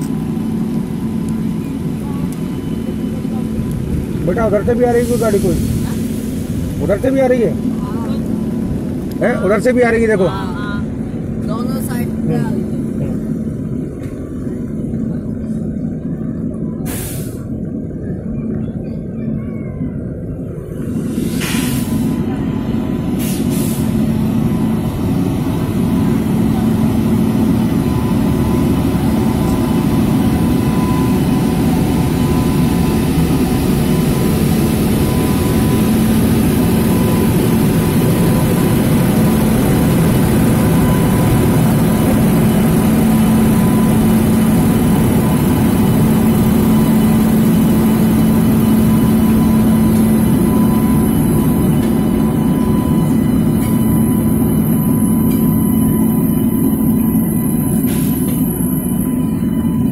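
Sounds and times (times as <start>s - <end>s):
electric locomotive humming: 0.0s - 59.9s
high-pitched whine: 0.0s - 59.9s.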